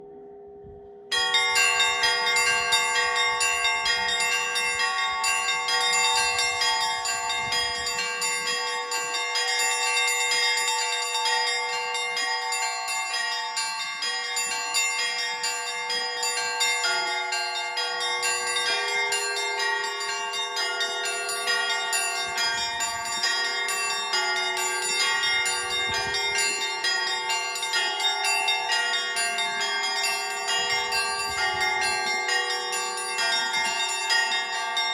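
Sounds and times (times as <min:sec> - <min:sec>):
church bells pealing: 0:00.0 - 0:34.9.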